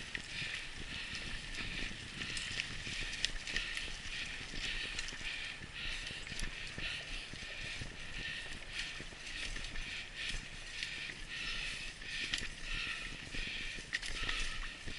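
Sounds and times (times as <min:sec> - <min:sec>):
bike rattles and clicks: 0:00.0 - 0:14.9
bike riding noise hiss: 0:00.0 - 0:14.9.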